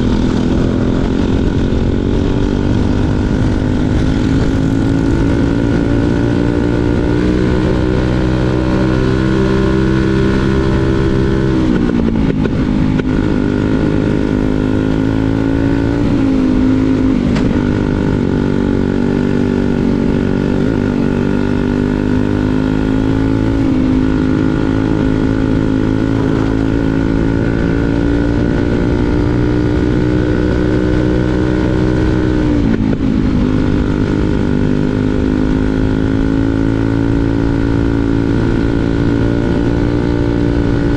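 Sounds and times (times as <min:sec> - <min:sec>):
kart engine at high revs: 0:00.0 - 0:40.9.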